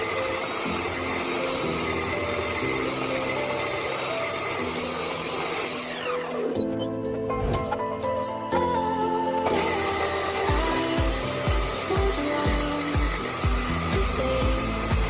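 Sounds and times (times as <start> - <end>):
power tool cutting: 0.0 - 15.0.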